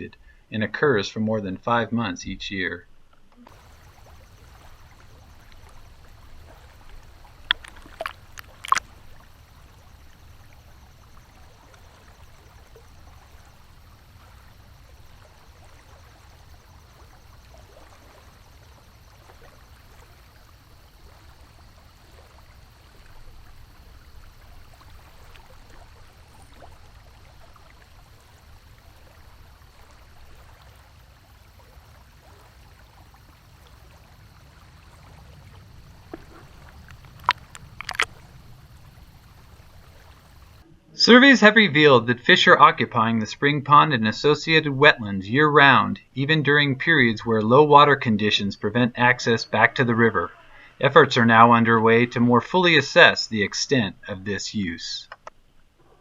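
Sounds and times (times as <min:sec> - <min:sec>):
flowing stream water: 0:02.9 - 0:56.0.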